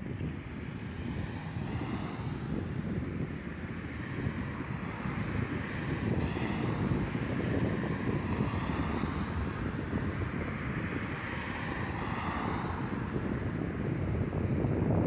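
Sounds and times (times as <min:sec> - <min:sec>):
cars driving past: 0:00.0 - 0:15.0
wind buffeting microphone: 0:00.0 - 0:15.0.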